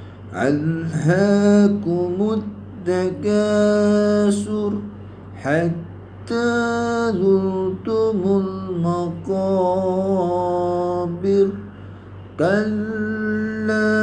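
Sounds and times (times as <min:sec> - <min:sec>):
man reciting in melodic chant: 0:00.3 - 0:14.0.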